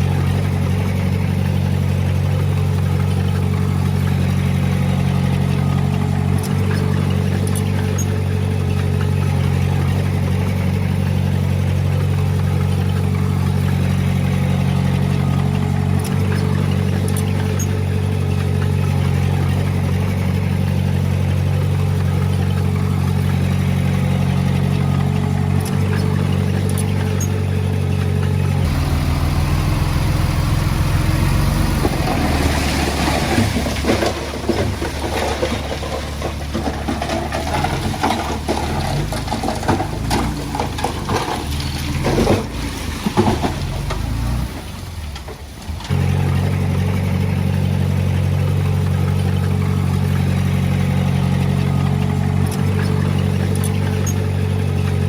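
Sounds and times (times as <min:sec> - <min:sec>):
diesel engine running: 0:00.0 - 0:55.0
machinery clattering and rattling: 0:00.0 - 0:55.0.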